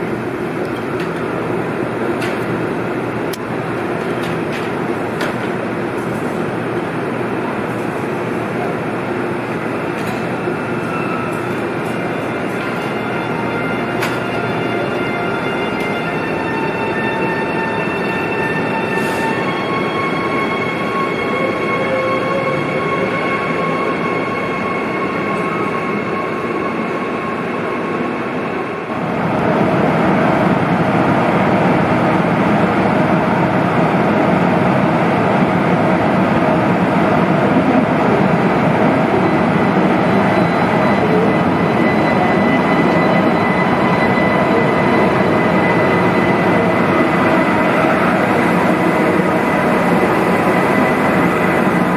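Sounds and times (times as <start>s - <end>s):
electric train humming and whining: 0.0s - 51.9s
train rumbling along platform: 0.0s - 51.9s.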